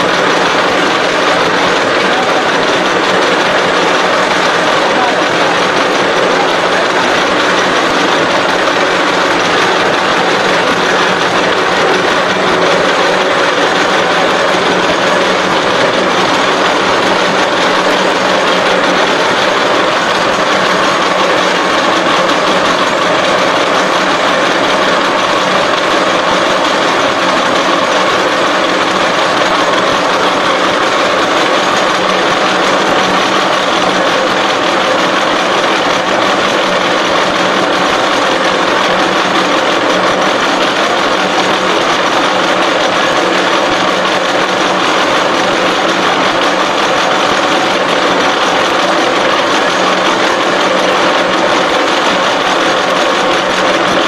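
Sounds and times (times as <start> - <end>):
milling machine cutting steel: 0.0 - 54.0.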